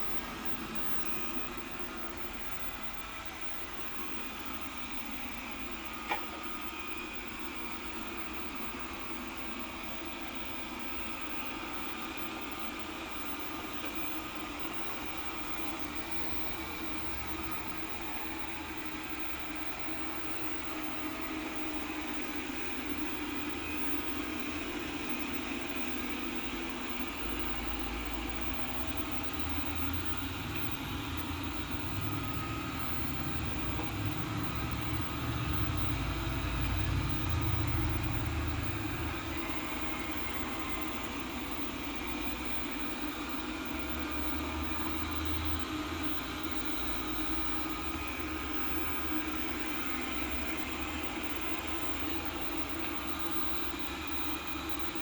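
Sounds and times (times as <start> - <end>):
robot cleaner motor hum: 10.9 - 55.0.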